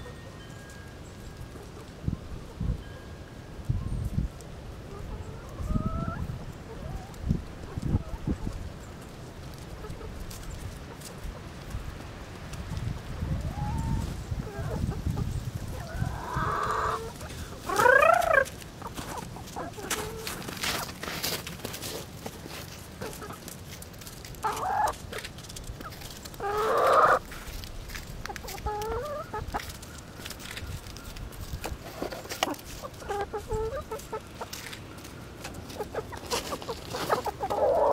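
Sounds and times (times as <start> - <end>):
young chickens clucking: 1.3 - 3.0, 3.6 - 21.1, 21.9 - 37.9.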